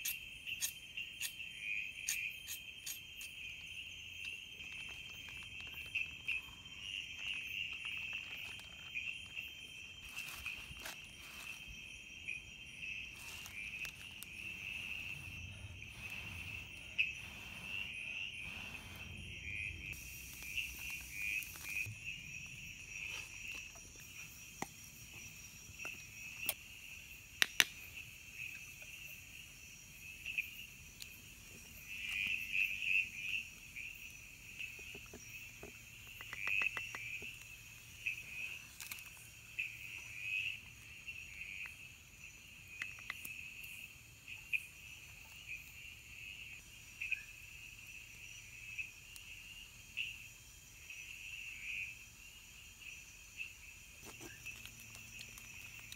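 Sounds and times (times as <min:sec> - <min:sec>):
night insects chirring: 0:00.0 - 0:55.9.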